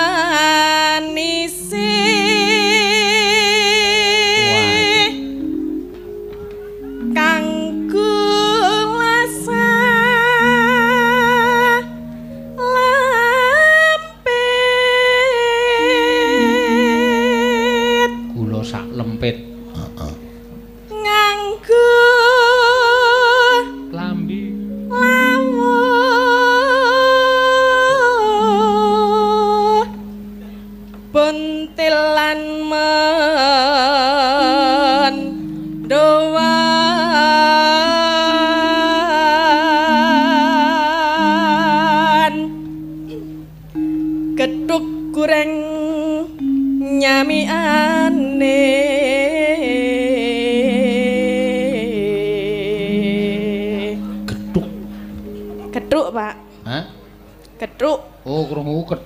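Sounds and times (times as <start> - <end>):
woman singing with vibrato: 0.0 - 5.9, 6.7 - 18.4, 20.4 - 24.0, 24.6 - 56.6
gamelan accompaniment: 0.0 - 57.5.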